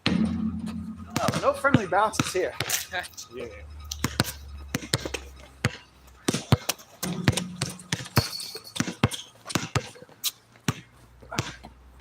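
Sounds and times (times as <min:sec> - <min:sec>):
basketballs bouncing on court: 0:00.0 - 0:02.8, 0:04.0 - 0:10.0, 0:10.7 - 0:11.7.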